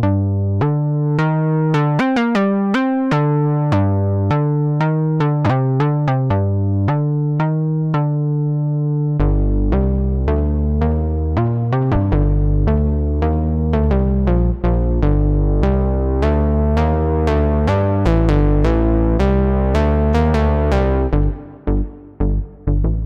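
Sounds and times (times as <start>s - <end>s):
synthesizer plucky bass notes: 0.0s - 23.0s.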